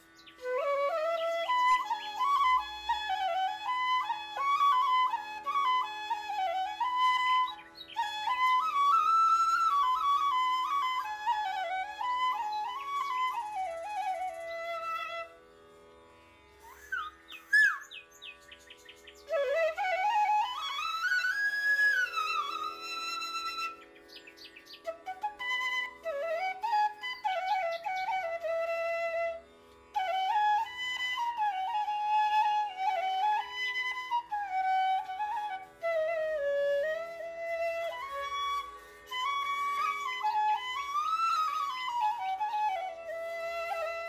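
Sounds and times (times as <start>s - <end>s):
solo flute melody: 0.0s - 44.0s.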